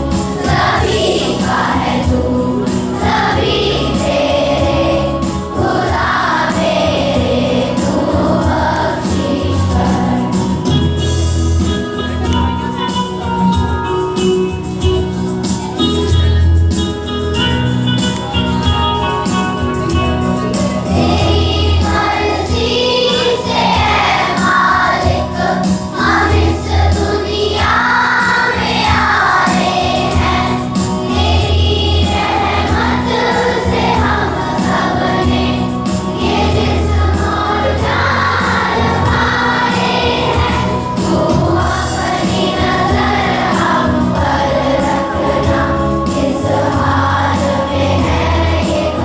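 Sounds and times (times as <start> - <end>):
choir singing: 0.0 - 11.2, 20.3 - 49.0
instrumental backing with a beat: 0.0 - 49.0.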